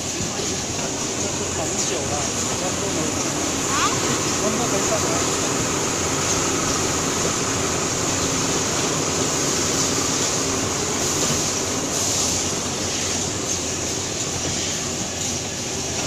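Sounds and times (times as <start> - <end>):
machine running: 0.0 - 16.0
high hiss: 0.4 - 15.5.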